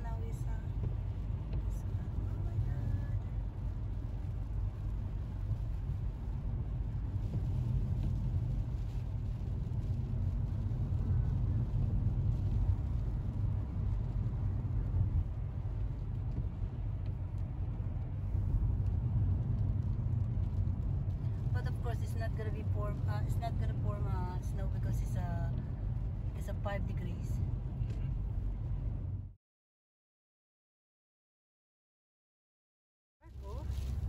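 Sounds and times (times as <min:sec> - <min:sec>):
car cabin road rumble: 0:00.0 - 0:29.3, 0:33.2 - 0:34.0.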